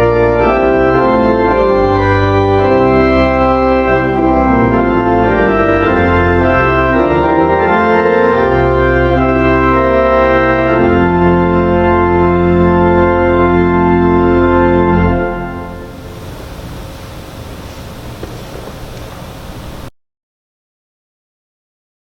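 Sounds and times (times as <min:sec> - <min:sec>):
organ playing chords: 0:00.0 - 0:19.9.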